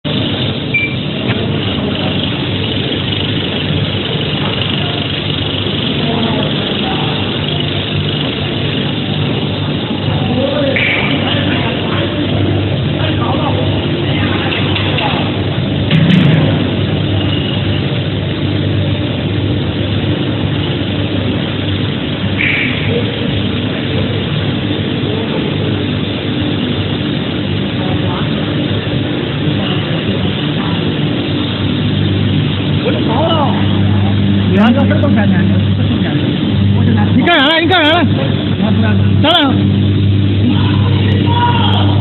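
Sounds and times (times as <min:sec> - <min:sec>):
machine motors humming: 0:00.0 - 0:42.0.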